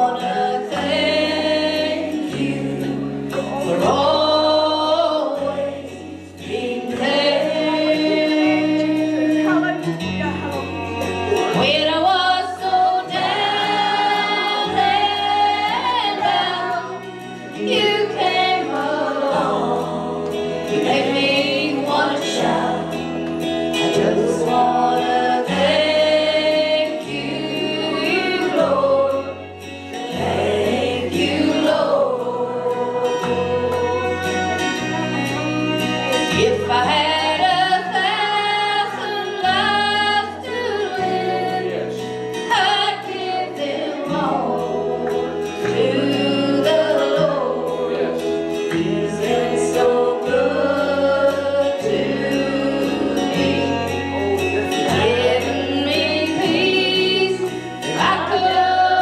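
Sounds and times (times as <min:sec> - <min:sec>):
instrumental accompaniment: 0:00.0 - 0:59.0
woman singing gospel: 0:00.0 - 0:59.0.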